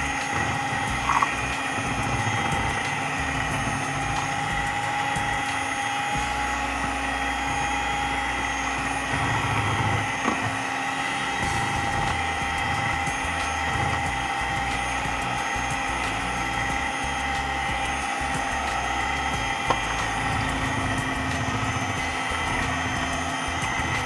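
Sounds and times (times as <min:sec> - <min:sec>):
electric hand mixer whining: 0:00.0 - 0:24.0.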